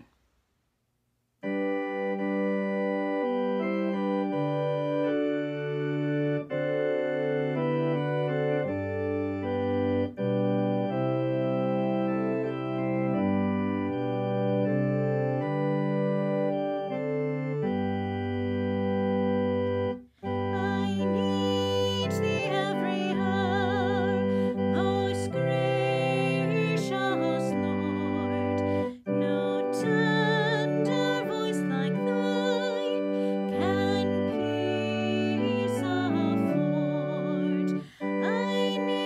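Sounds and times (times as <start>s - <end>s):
organ playing held chords: 1.4s - 39.0s.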